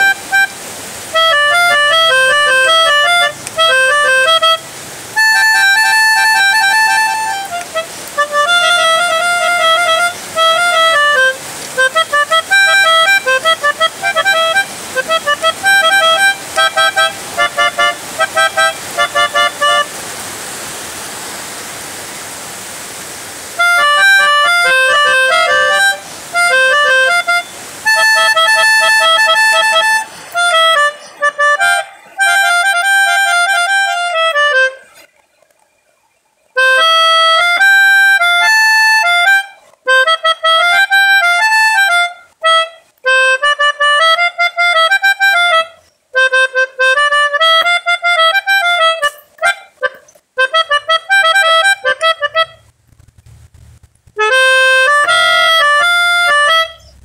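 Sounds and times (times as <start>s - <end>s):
melodica playing quick phrases: 0.0s - 20.3s, 23.6s - 35.4s, 36.6s - 52.7s, 54.0s - 57.0s
steady hiss: 0.0s - 57.0s.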